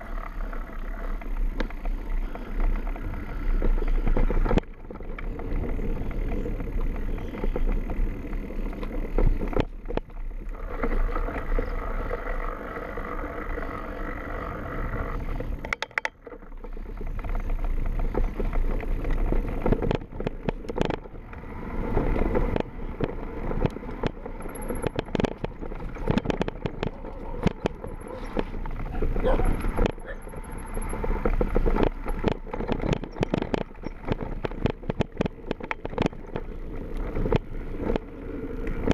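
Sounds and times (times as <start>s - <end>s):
bike rattling over bumps: 0.0s - 38.9s
bike tyre noise on trail: 0.0s - 38.9s.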